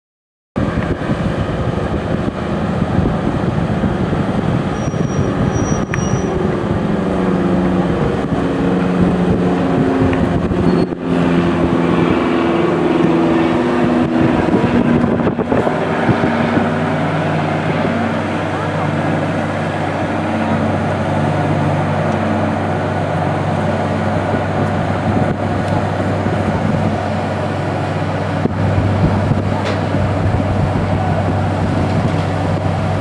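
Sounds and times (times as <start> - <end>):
boat engine running hard: 0.6 - 33.0.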